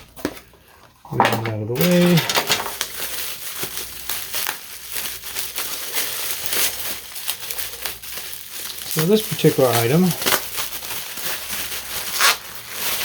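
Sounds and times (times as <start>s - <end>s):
packaging material crinkling: 0.0s - 13.0s.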